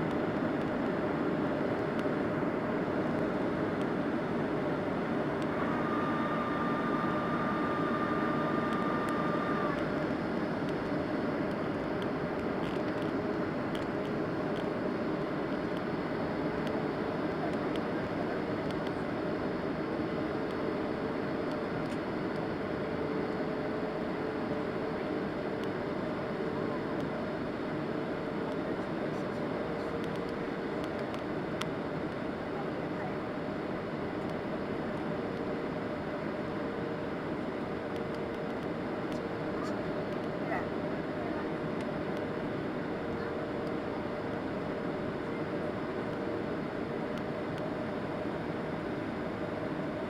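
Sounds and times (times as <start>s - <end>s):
faint steady hum: 0.0s - 50.0s
jet engines droning: 0.0s - 50.0s.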